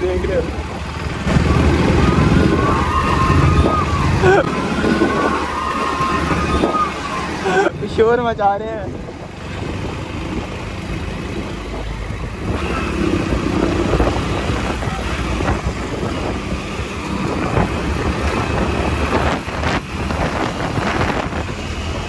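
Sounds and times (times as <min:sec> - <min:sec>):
motorcycle engine: 0:00.0 - 0:22.0
road noise: 0:00.0 - 0:22.0
wind on microphone: 0:00.6 - 0:07.8, 0:08.7 - 0:22.0.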